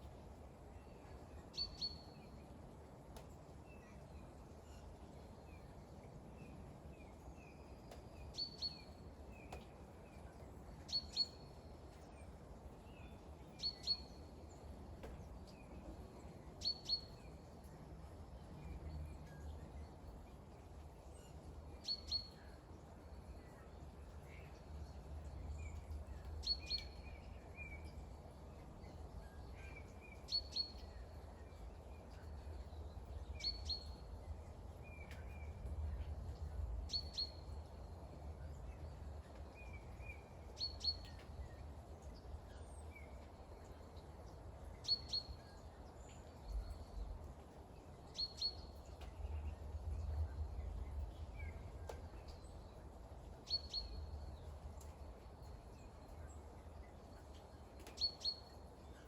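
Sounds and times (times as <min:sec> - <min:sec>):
background hiss and rumble: 0:00.0 - 0:59.0.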